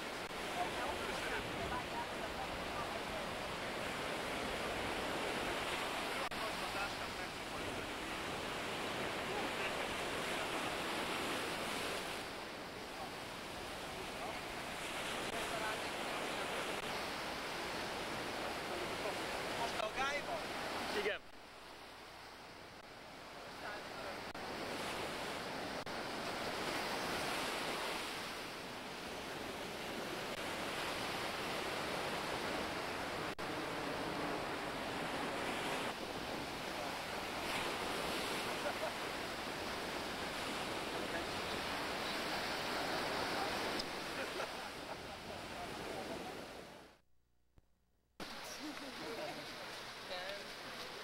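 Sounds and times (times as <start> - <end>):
ocean surf washing up beach: 0.0 - 47.0, 48.2 - 51.0.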